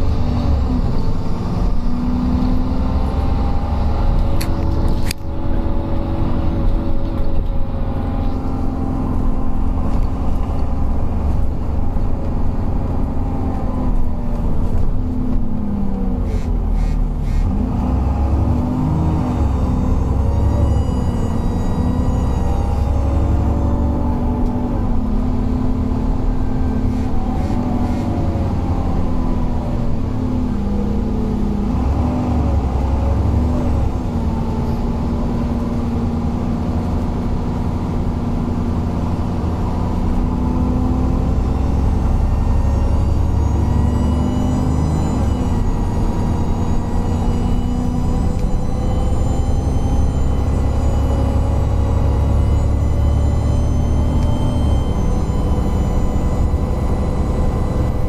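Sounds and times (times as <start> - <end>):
bus engine pulling away: 0.0 - 58.0.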